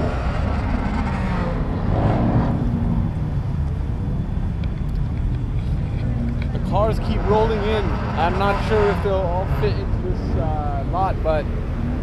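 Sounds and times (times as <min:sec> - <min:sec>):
low rumble of cars running: 0:00.0 - 0:12.0.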